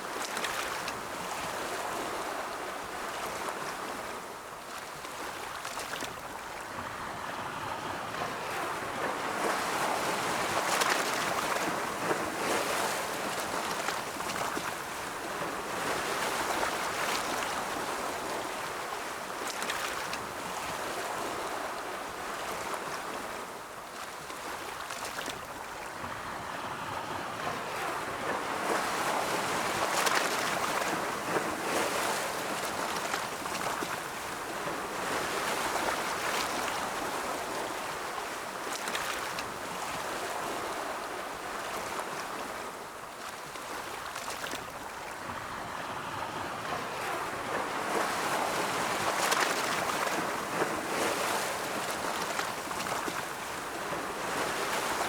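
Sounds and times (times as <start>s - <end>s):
ocean waves breaking: 6.7s - 55.0s.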